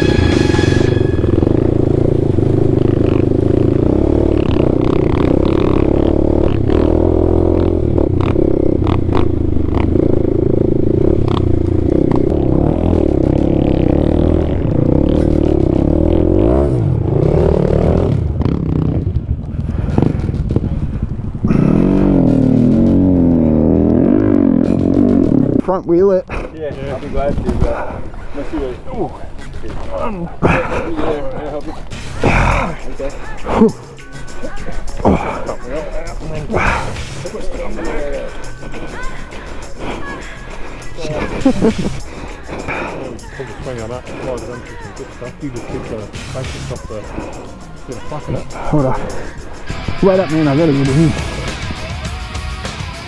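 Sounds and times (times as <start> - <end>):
dirt bike engine running: 0.0 - 53.0
bike rattling over bumps: 1.0 - 51.9.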